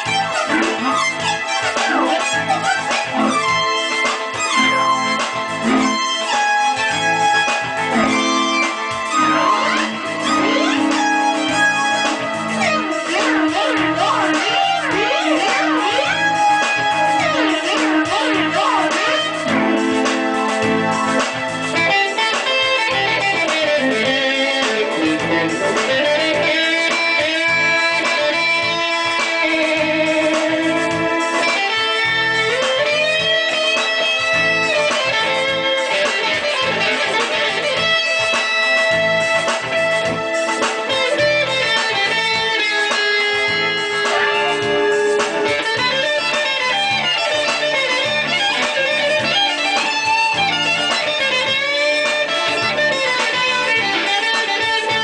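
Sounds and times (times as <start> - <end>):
electric guitar lead melody: 0.0 - 55.0.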